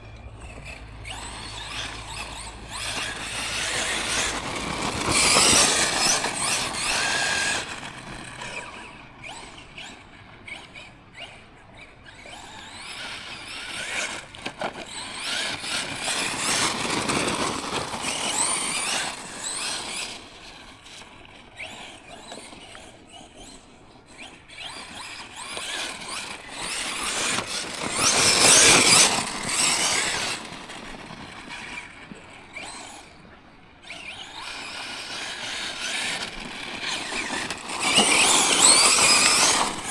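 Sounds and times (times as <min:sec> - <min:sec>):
electric motor and drivetrain whine: 0:00.0 - 0:39.9.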